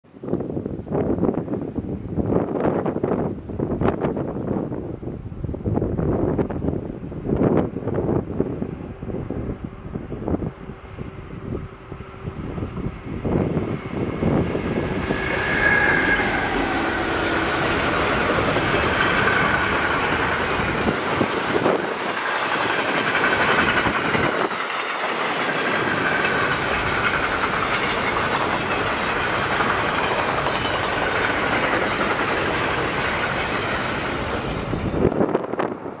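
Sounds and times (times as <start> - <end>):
freight train passing: 0.9 - 36.0.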